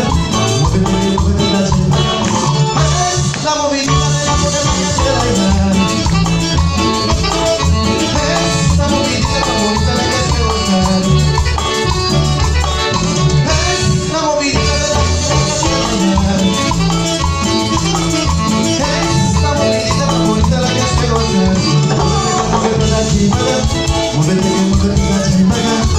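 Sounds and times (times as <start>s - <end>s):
live band playing dance music: 0.0s - 25.9s
person singing: 0.0s - 25.9s.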